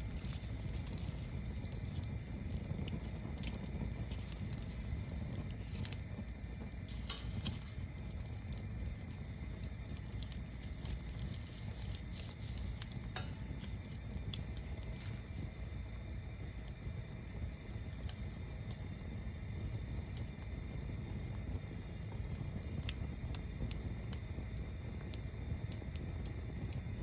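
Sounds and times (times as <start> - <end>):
bonfire crackling and popping: 0.0 - 27.0
low rush of flame: 0.0 - 27.0.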